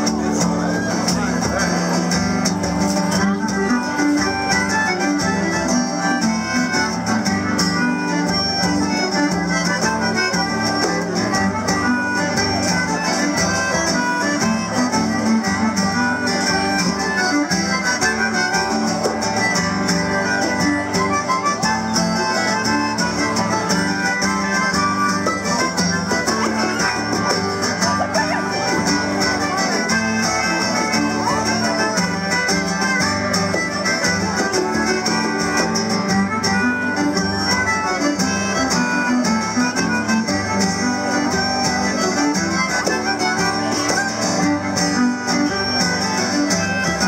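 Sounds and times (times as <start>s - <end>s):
acoustic guitar: 0.0s - 47.0s
concertina: 0.0s - 47.0s
fiddle: 0.0s - 47.0s
folk dance tune: 0.0s - 47.0s.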